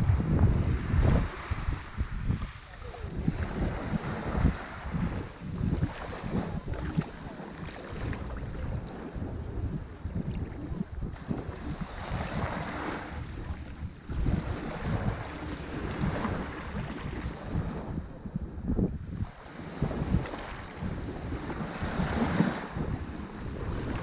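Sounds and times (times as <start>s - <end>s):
ocean waves washing onto shore: 0.0s - 24.0s
wind buffeting microphone: 0.0s - 24.0s.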